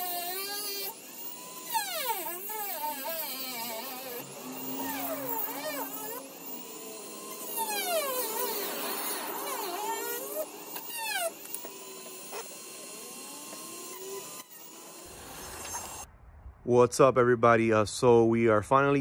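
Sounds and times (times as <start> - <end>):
rotary tool cutting plastic: 0.0 - 15.7.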